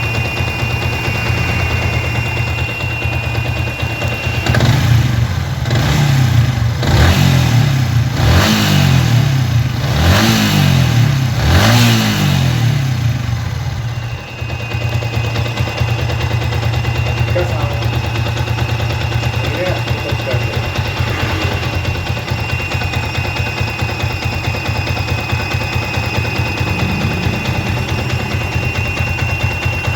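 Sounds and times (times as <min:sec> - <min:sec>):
motorcycle engine idling and revving: 0:00.0 - 0:29.9.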